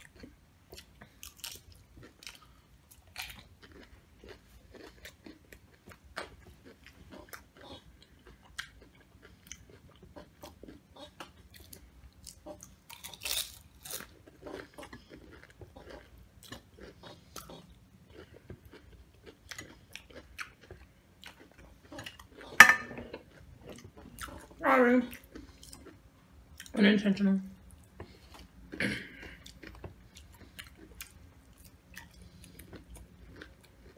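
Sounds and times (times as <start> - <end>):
chewing crisp chips: 0.0 - 26.8, 27.6 - 33.9.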